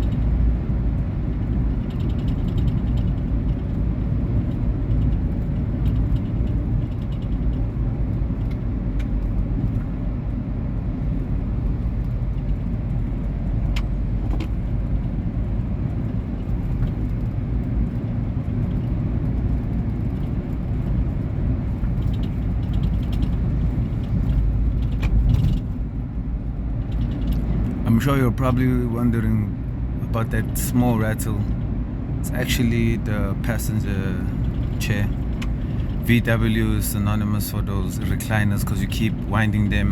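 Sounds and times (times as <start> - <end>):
car engine and road rumble: 0.0 - 39.9
seat rattle clicking: 0.0 - 39.9.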